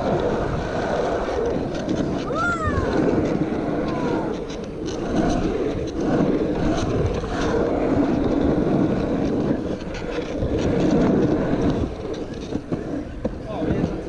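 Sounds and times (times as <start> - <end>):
wheels rolling on asphalt: 0.0 - 14.0
wind buffeting microphone: 0.0 - 14.0.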